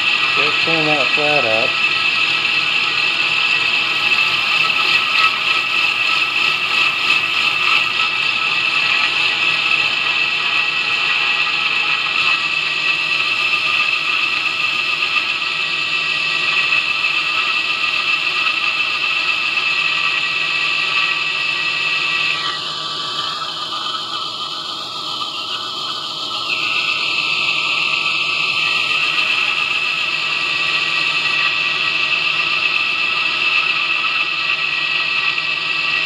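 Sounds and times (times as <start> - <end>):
belt grinder whining: 0.0 - 36.0.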